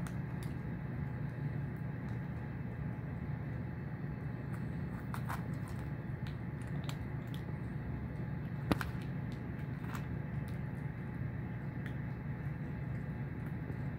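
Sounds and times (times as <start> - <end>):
cats chewing: 0.0 - 13.9
steady low hum: 0.0 - 13.9.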